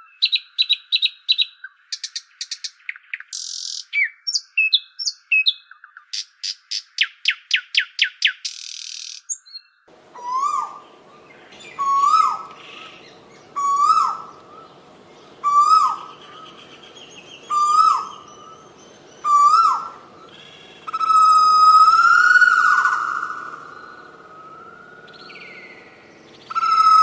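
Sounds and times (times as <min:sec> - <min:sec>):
bird calling: 0:00.0 - 0:27.0.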